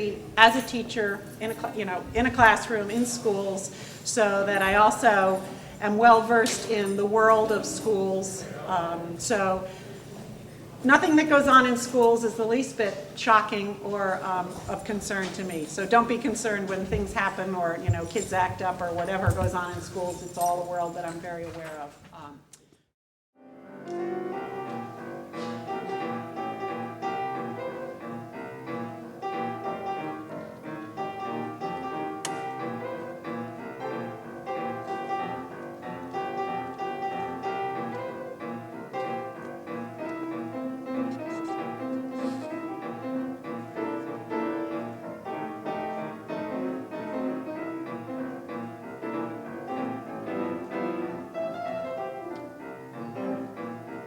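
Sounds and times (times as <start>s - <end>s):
classical piano music: 0.0s - 21.4s, 23.4s - 54.0s.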